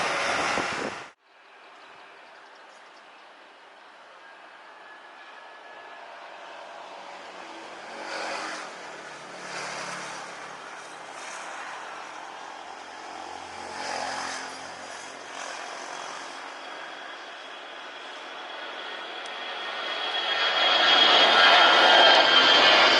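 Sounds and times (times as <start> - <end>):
high jet whine: 0.0 - 1.2, 3.5 - 22.9
jet engines rushing: 0.0 - 1.2, 3.0 - 22.9
road traffic passing: 0.0 - 22.9.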